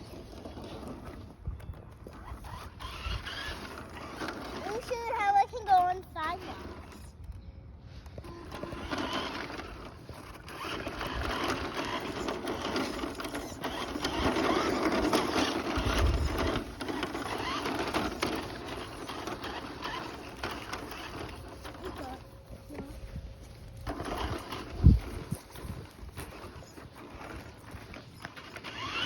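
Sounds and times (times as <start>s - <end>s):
small motor whirring with rattle: 0.0s - 29.0s.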